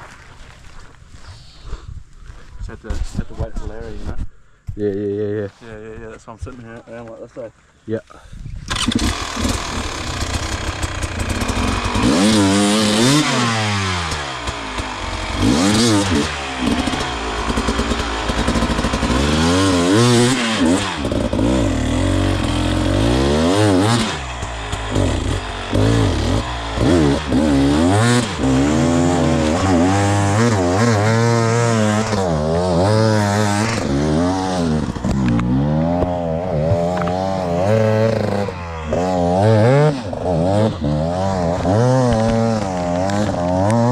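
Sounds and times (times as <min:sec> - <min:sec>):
dirt bike engine revving: 0:08.7 - 0:43.9.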